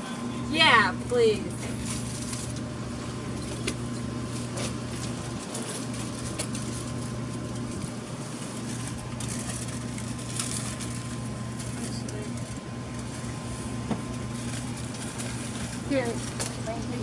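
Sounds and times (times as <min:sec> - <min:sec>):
faint clicks and rustles: 0:03.4 - 0:17.0.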